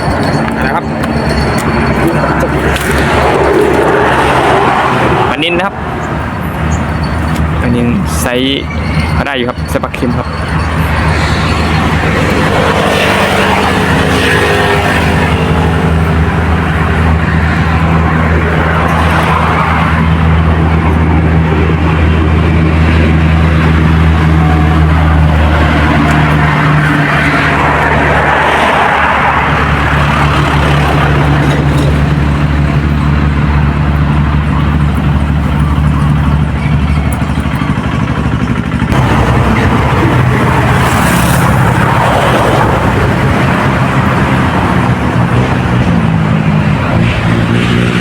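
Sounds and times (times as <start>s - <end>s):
loud engine drone: 0.0s - 48.0s.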